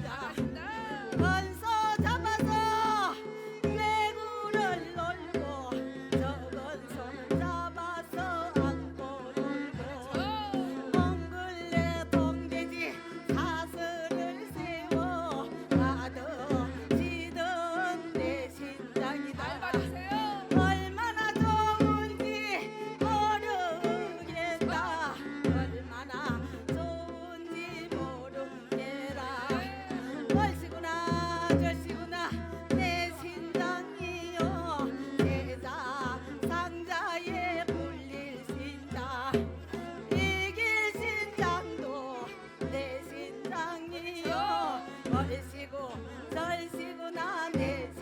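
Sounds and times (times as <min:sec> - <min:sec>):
drum beating steady rhythm: 0:00.0 - 0:43.6, 0:44.3 - 0:48.0.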